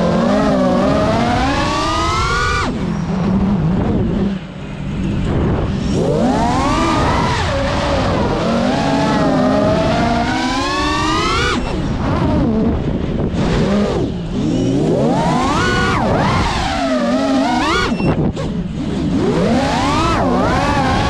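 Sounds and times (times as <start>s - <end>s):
drone motors and propellers whining: 0.0s - 21.0s.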